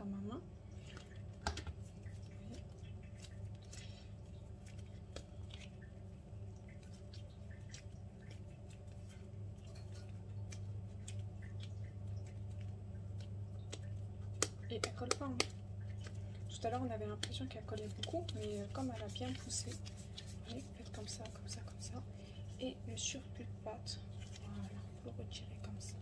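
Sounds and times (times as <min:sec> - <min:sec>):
steady low hum: 0:00.0 - 0:26.0
sticky dough handling: 0:00.9 - 0:26.0.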